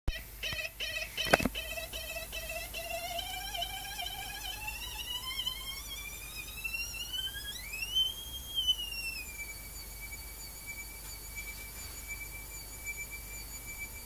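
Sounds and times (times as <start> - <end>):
thin whine of motor coils: 0.1 - 14.0.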